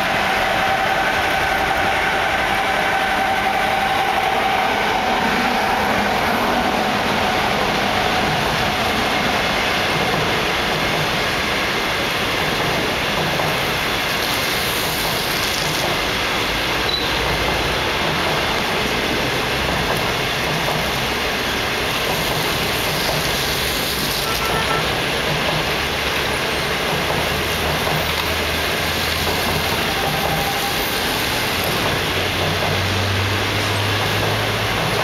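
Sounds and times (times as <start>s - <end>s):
train rolling past: 0.0s - 35.0s.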